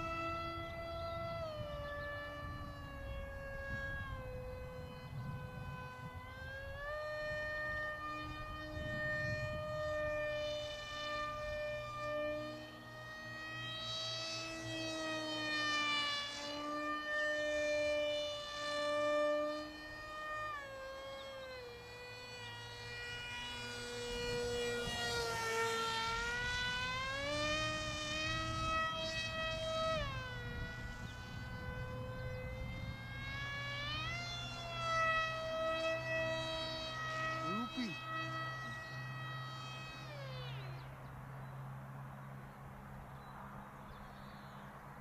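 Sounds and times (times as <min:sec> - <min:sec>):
model plane motor whining: 0:00.0 - 0:45.0.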